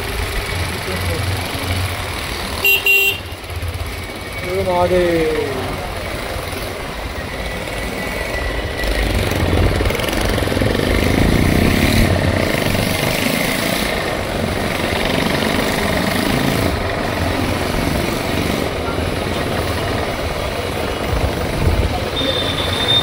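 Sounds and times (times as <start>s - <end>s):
motorcycle engine rumbling: 0.0s - 23.0s
road noise: 0.0s - 23.0s.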